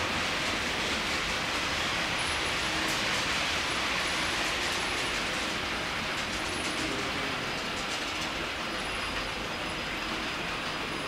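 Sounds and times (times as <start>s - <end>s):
model train running: 0.0s - 11.0s
wheels clicking on rail joints: 0.0s - 11.0s.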